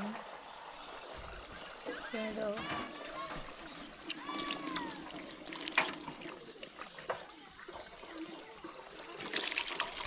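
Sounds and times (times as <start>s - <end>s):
water trickling and splashing: 0.0s - 10.0s.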